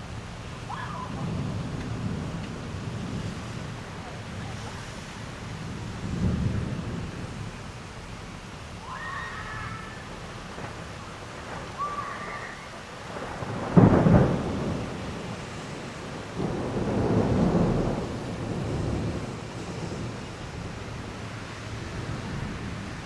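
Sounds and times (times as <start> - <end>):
thunderclap rolling into rumbling: 0.0 - 7.7, 8.8 - 23.0
heavy rain falling: 0.0 - 23.0.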